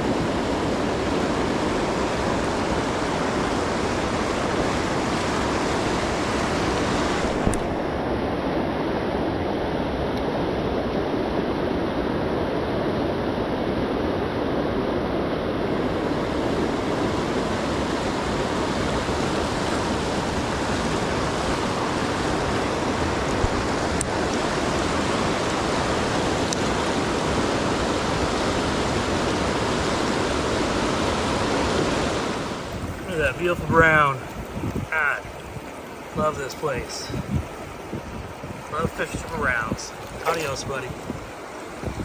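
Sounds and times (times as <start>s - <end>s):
river current rushing: 0.0s - 42.0s.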